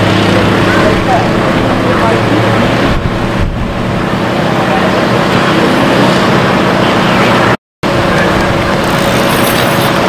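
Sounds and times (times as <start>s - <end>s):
engine-like drone: 0.0s - 10.0s.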